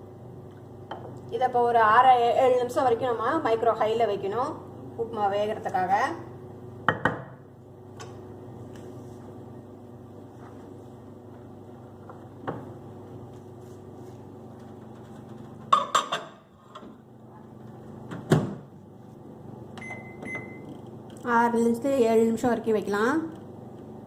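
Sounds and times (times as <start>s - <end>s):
microwave hum: 0.0s - 24.0s.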